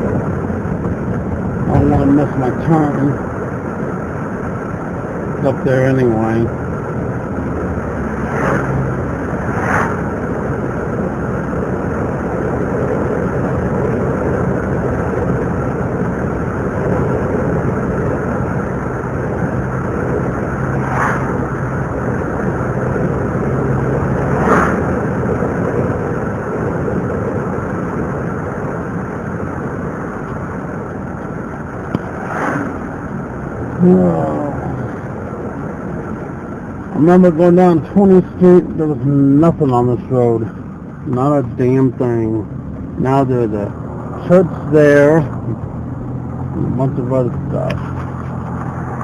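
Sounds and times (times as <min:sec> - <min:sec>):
road and engine noise inside car: 0:00.0 - 0:49.0.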